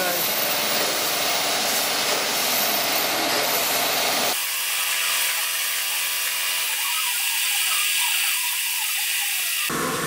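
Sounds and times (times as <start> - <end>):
lathe machine whine: 0.0 - 10.0.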